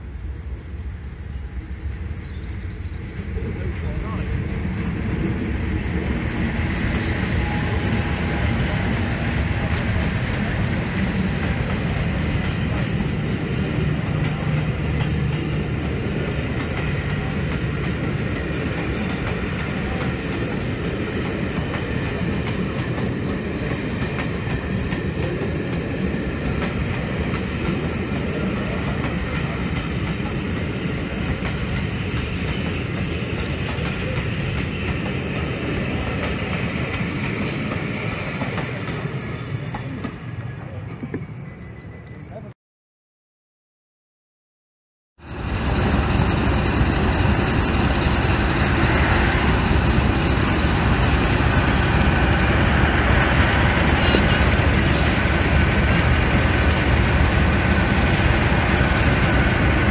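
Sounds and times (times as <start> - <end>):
diesel locomotive engines: 0.0 - 42.5, 45.2 - 59.9
train coaches rolling by: 0.0 - 42.5, 45.2 - 59.9.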